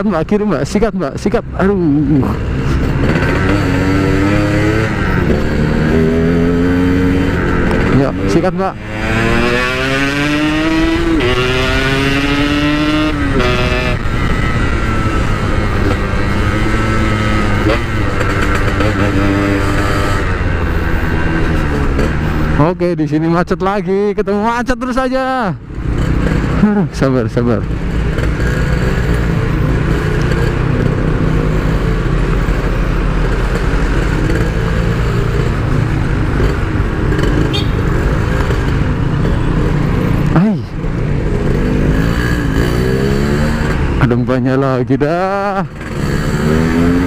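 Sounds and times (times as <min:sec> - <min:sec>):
two-stroke motorcycle accelerating: 0:00.0 - 0:47.0.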